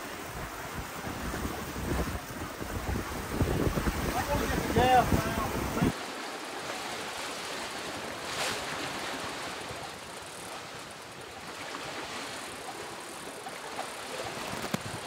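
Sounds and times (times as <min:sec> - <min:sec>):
water rushing and waves: 0:00.0 - 0:15.0.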